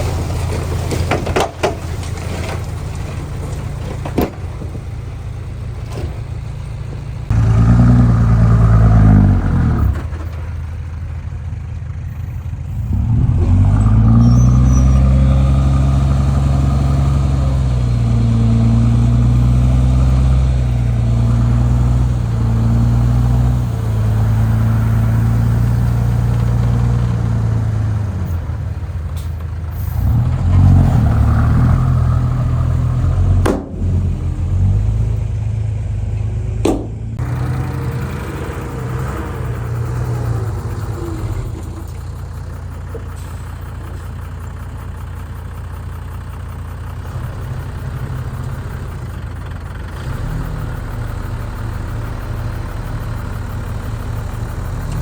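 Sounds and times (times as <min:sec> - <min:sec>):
heavy diesel engine revving: 0:00.0 - 0:55.0.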